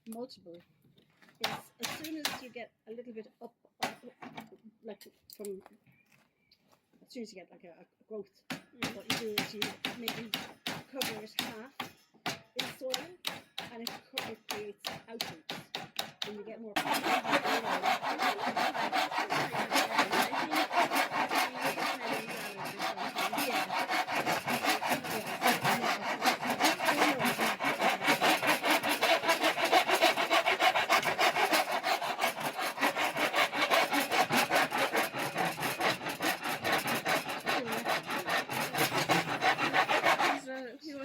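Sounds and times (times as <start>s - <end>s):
hand tool cutting wood: 1.4s - 2.5s, 8.5s - 41.0s.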